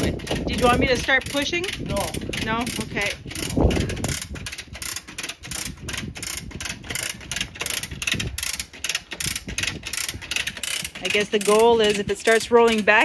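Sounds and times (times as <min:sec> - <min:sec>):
hoist pawl clicking: 0:00.0 - 0:13.0.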